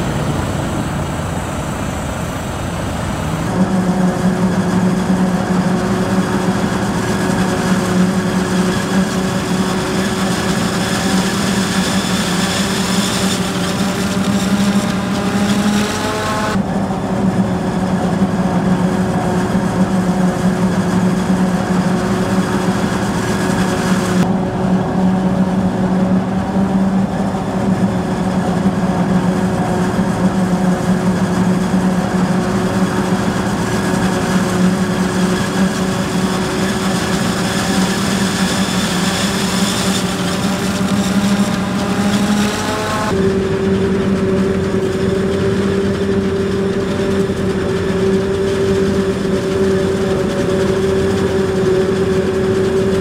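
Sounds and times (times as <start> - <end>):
heavy diesel engines running: 0.0 - 53.0.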